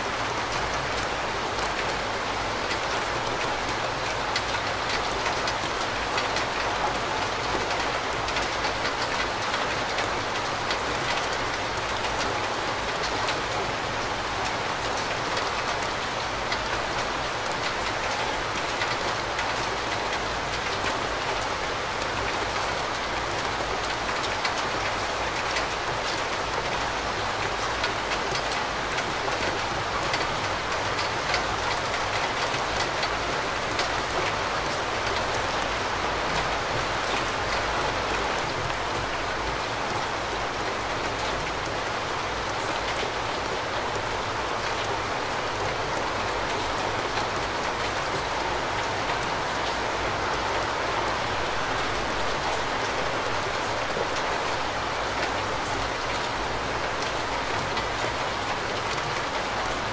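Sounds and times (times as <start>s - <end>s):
steady rain in a forest: 0.0s - 59.9s.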